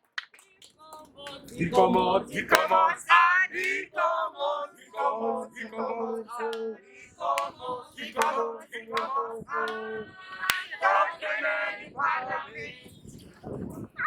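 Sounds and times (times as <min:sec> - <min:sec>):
group of people singing: 0:00.4 - 0:14.0.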